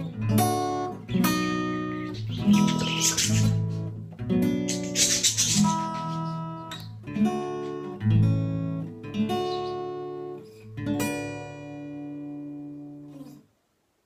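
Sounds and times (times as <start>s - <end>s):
acoustic guitar strumming chords: 0.0s - 13.4s.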